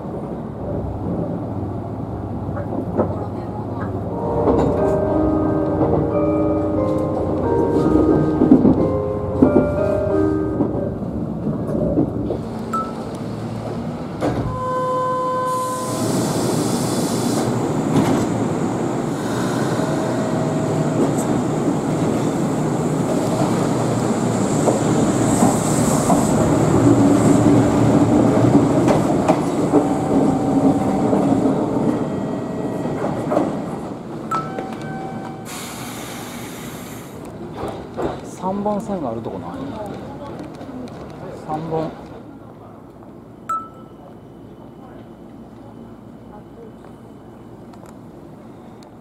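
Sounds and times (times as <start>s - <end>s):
electric train running on rails: 0.0s - 49.0s.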